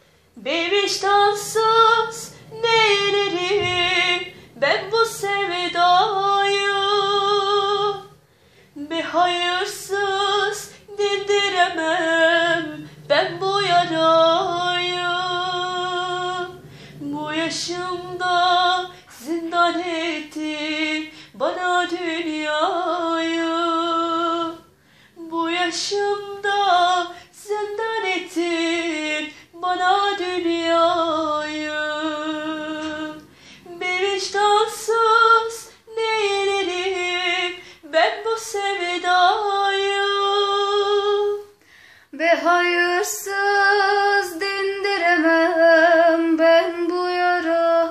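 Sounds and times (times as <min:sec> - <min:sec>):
woman singing slowly: 0:00.4 - 0:08.2, 0:08.8 - 0:47.9.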